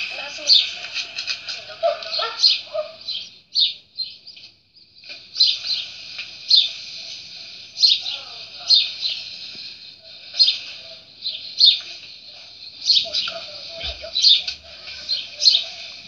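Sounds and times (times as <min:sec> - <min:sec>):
small birds chirping and twittering: 0:00.0 - 0:16.0.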